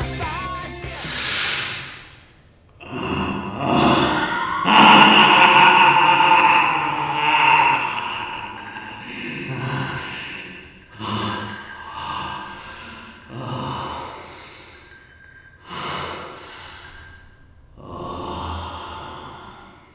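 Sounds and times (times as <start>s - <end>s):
man gasping breaths with echo: 2.8s - 19.9s.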